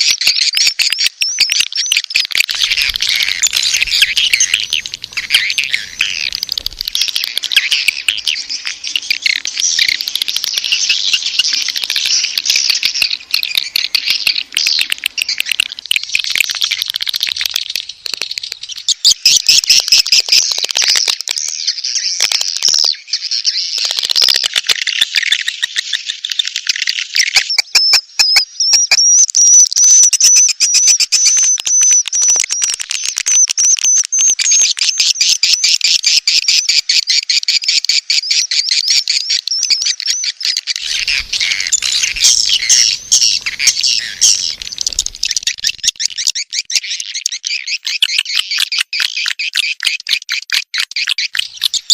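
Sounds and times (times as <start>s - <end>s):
rapid bird chirps and twitters: 0.0s - 51.9s.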